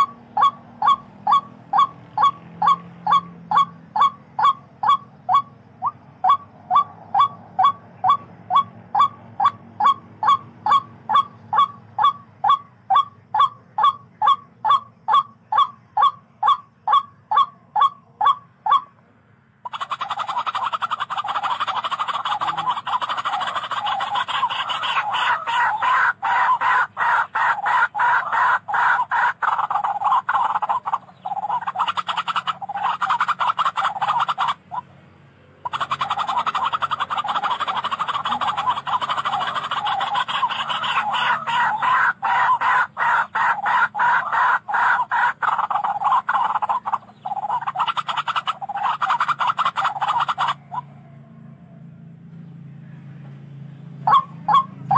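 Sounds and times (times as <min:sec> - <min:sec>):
rail bird calling harsh notes: 0:00.0 - 0:19.0, 0:19.6 - 0:34.8, 0:35.6 - 0:50.9, 0:54.0 - 0:54.9.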